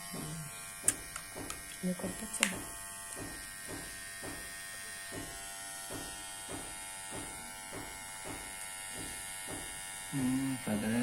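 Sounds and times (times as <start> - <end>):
electric hair clipper buzzing: 0.0 - 11.0.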